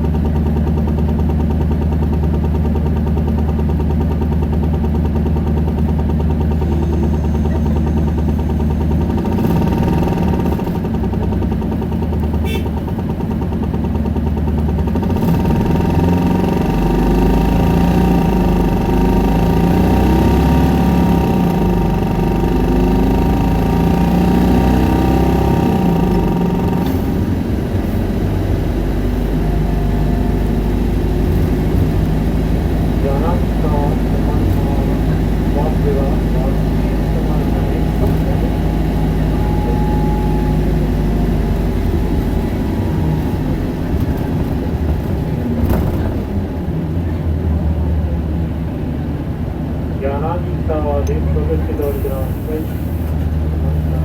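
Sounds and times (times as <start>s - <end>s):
bus diesel engine: 0.0s - 54.0s
engine whine: 0.0s - 54.0s.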